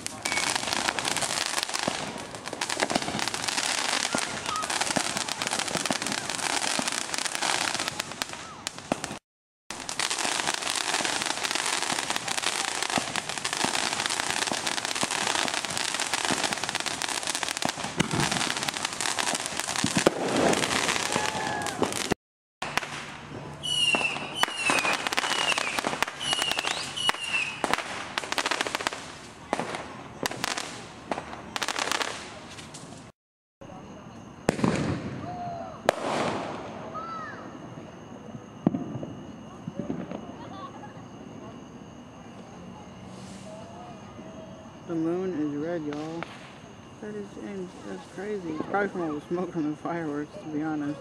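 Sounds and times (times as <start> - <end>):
high falling firework whistles: 0.0 - 9.2, 9.8 - 33.1, 34.4 - 46.8
fireworks crackling and popping: 0.0 - 33.1, 33.8 - 44.0, 44.8 - 51.0.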